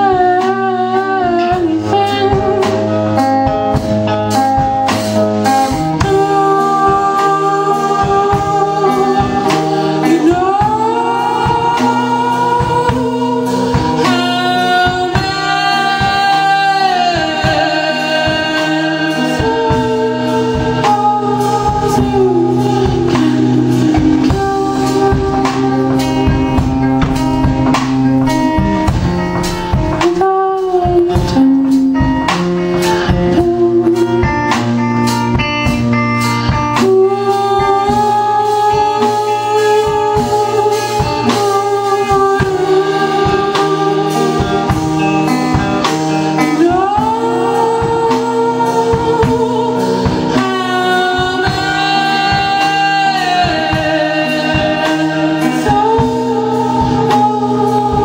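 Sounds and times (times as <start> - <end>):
guitar strumming: 0.0 - 58.0
person singing: 0.0 - 58.0.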